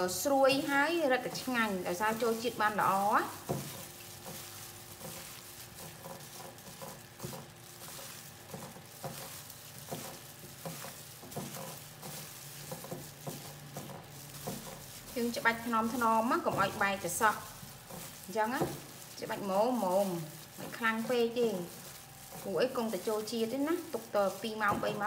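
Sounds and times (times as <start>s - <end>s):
plastic glove crinkling: 0.0s - 25.0s
wet vegetables squishing: 0.0s - 25.0s.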